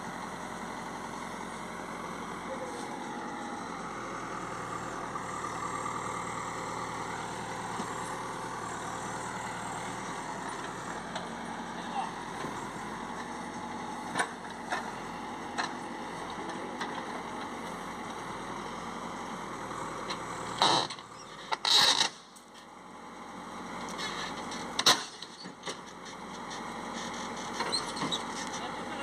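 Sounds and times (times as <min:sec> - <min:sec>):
diesel engine running steadily: 0:00.0 - 0:29.0.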